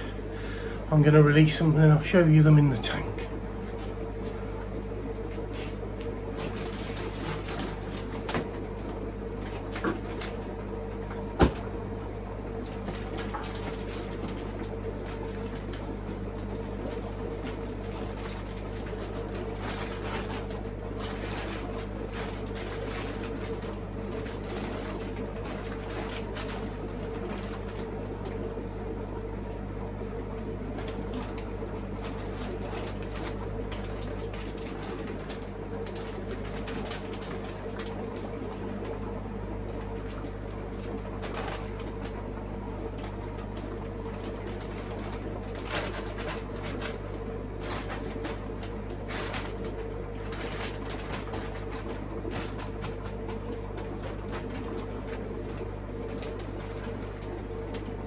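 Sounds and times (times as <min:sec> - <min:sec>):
electric equipment hum: 0:00.0 - 0:58.0.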